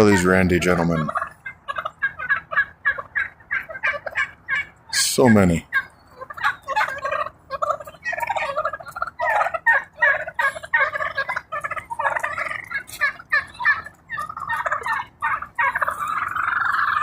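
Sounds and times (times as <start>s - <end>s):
turkeys gobbling: 0.0s - 17.0s.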